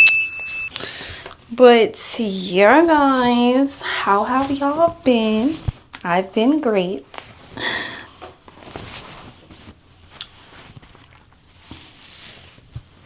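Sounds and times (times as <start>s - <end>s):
soft rustling and handling: 2.2s - 13.0s.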